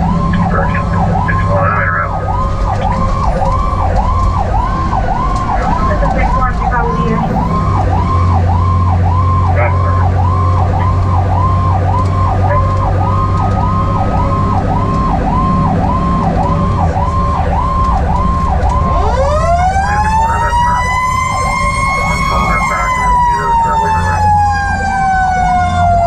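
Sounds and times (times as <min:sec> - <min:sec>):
diesel engine drone: 0:00.0 - 0:26.0
electronic siren wailing: 0:00.0 - 0:26.0
mechanical siren howling: 0:00.0 - 0:26.0.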